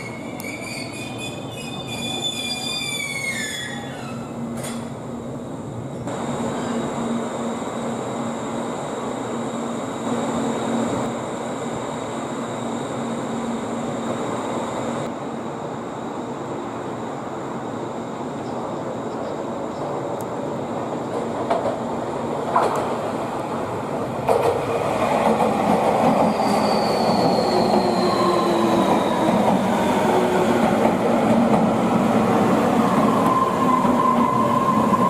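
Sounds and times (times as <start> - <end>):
electric train rumbling on rails: 0.0 - 35.0.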